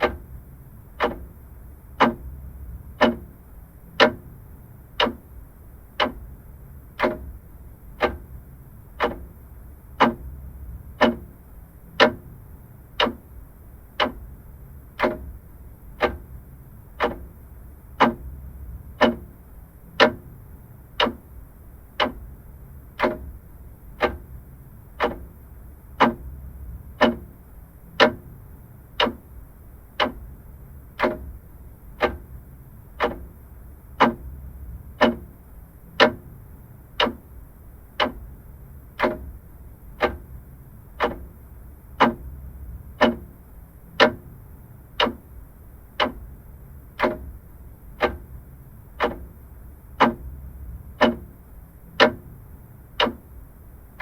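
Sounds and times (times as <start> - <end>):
faint low hum: 0.0 - 54.0
mechanical clock ticking: 0.0 - 54.0.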